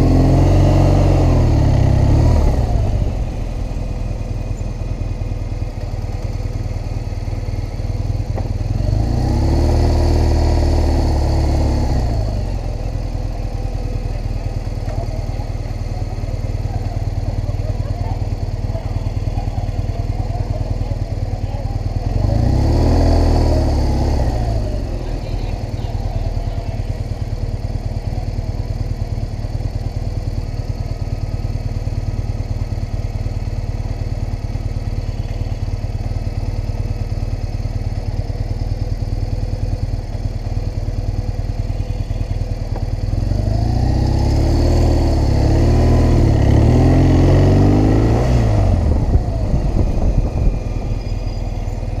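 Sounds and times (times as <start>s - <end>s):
motorcycle engine idling and accelerating: 0.0s - 52.0s.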